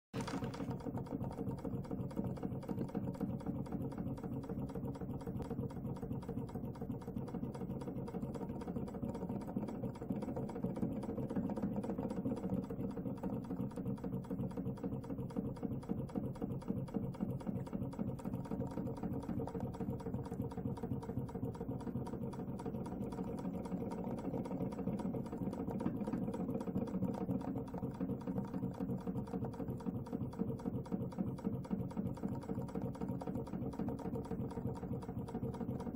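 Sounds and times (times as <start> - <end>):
model engine ticking: 0.2 - 35.9.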